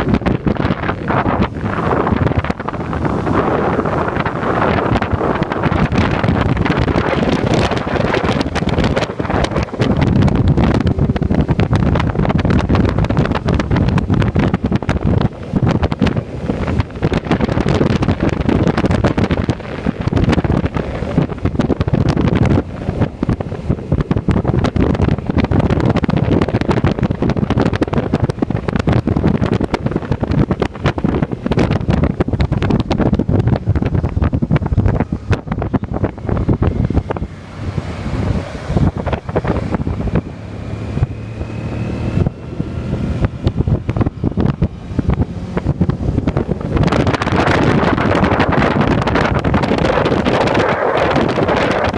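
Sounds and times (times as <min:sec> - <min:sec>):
motorcycle low rumble: 0:00.0 - 0:51.9
wind buffeting microphone: 0:00.0 - 0:51.9.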